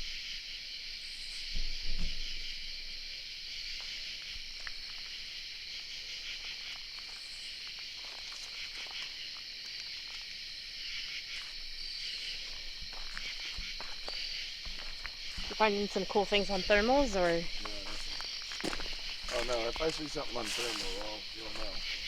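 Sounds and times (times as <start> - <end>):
night insects buzzing trill: 0.0 - 22.0.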